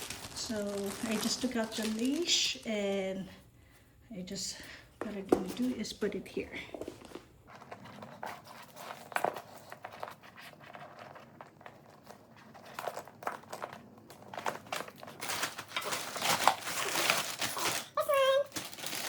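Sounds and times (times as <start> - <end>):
plastic packaging crinkling: 0.0 - 3.4, 6.6 - 19.0.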